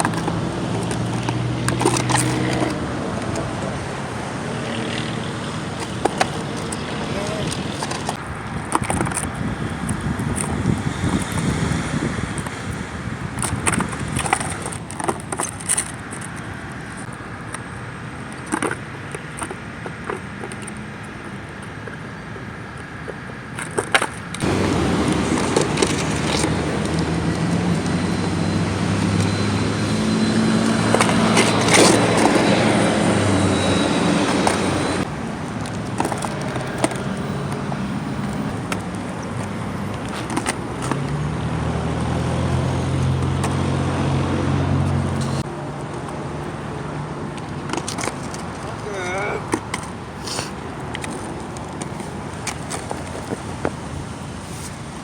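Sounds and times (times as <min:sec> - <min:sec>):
skateboard clacking on pavement: 0:00.0 - 0:11.5, 0:12.3 - 0:28.0, 0:29.9 - 0:33.4, 0:34.2 - 0:42.6, 0:45.2 - 0:55.0.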